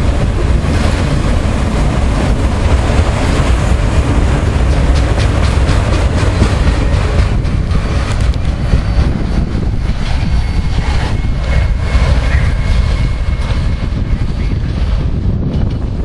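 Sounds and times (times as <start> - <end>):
freight train rumbling past: 0.0 - 16.0
wind buffeting microphone: 0.0 - 16.0.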